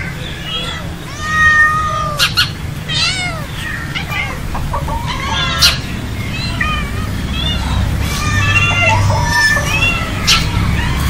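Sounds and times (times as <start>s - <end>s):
cats meowing: 0.2s - 11.0s.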